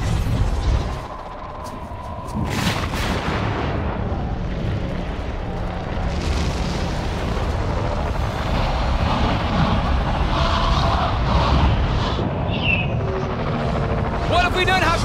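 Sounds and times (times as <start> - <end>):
deep continuous rumbling: 0.0 - 15.0.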